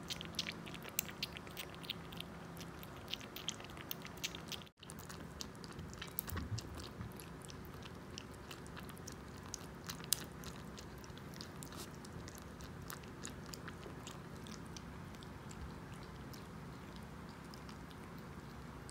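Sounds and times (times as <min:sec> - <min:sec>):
kitten lapping water: 0:00.0 - 0:18.9.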